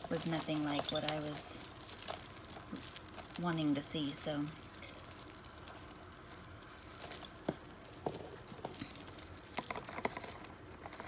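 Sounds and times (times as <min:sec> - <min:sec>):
jewelry clicking and rattling: 0:00.0 - 0:11.0.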